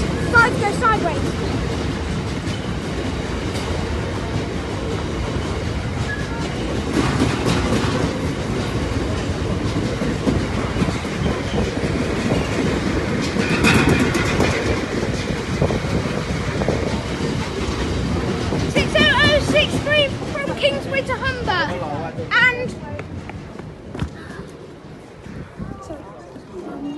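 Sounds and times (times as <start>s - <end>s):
train wagons clattering: 0.0s - 25.5s
train wheels rumbling on rail: 0.0s - 26.9s.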